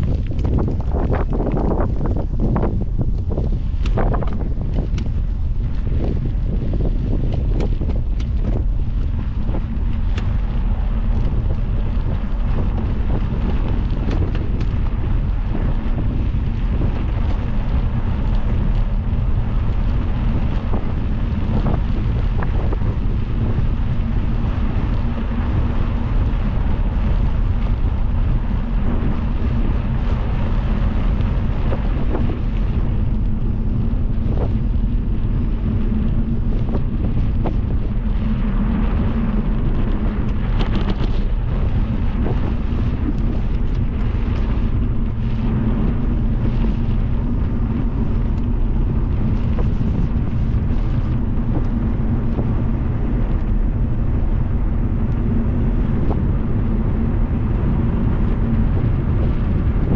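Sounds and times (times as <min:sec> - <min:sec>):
steady low rumble: 0:00.0 - 0:59.9
wind buffeting microphone: 0:00.0 - 0:59.9.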